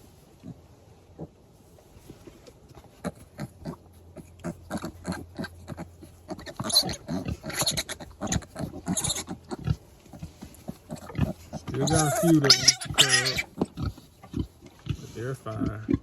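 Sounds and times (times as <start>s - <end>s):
pigs grunting: 2.9s - 16.0s.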